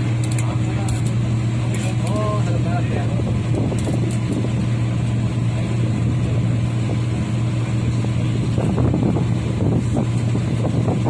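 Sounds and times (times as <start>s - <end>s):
turboprop aircraft drone: 0.0s - 11.0s.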